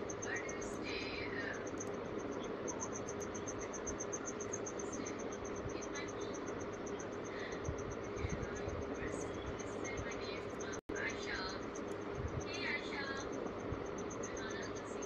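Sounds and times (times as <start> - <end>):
cricket chirping: 0.0 - 15.0
low hum and hiss: 0.0 - 15.0.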